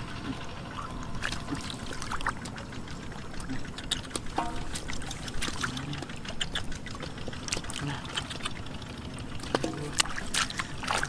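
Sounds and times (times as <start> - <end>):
water trickling and splashing: 0.3 - 11.0.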